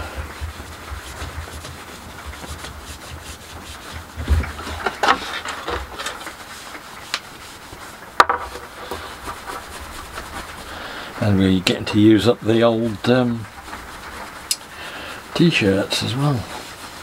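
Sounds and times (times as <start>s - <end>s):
rag rubbing on wooden cane: 0.0s - 17.0s.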